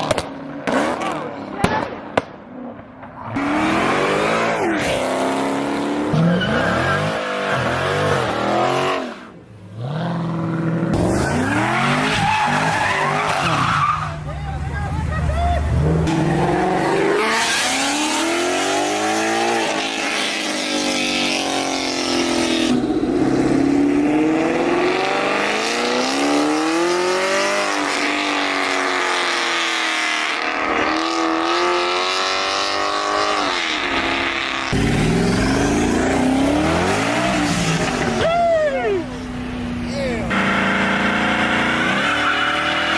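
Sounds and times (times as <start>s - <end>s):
car engine revving hard: 3.4s - 6.2s, 6.9s - 13.9s, 15.6s - 38.3s, 39.0s - 42.9s.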